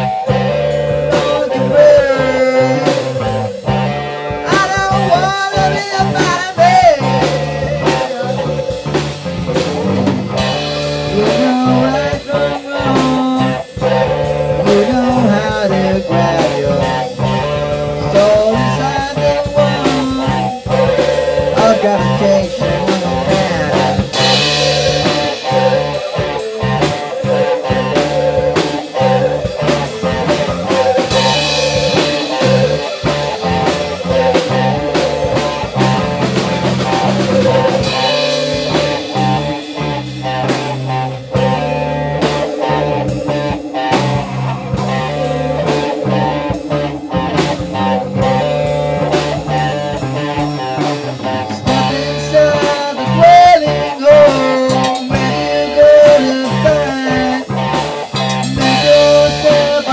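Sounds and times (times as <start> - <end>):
blues-rock band playing: 0.0 - 59.9
lead guitar with string bends: 0.0 - 59.9.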